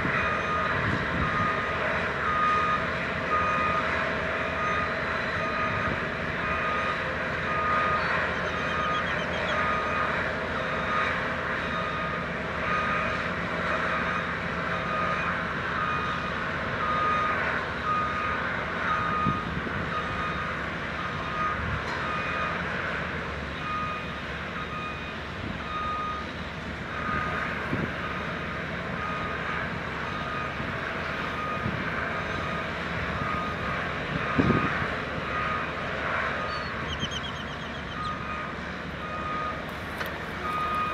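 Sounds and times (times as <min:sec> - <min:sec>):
heavy machinery running: 0:00.0 - 0:40.9
vehicle backup alarm beeping: 0:00.0 - 0:40.9.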